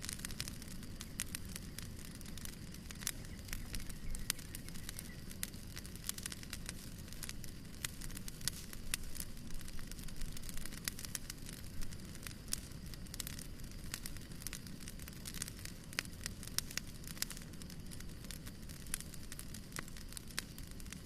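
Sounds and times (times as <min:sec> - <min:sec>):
fire flame rumble: 0:00.0 - 0:21.0
logs popping and crackling: 0:00.0 - 0:21.0.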